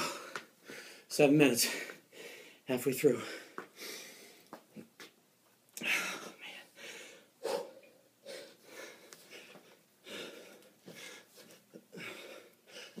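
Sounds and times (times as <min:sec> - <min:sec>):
man breathing hard: 0:00.0 - 0:04.5, 0:05.8 - 0:13.0.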